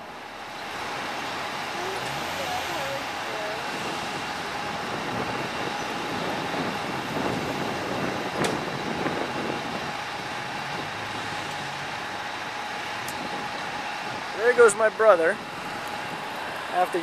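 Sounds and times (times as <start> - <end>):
car engine pulling away: 0.0 - 17.0
traffic noise: 0.0 - 17.0.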